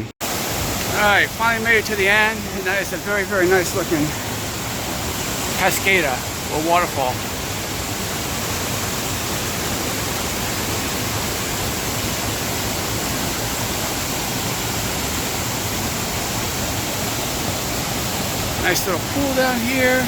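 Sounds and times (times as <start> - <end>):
waterfall pouring into pool: 0.2 - 20.0.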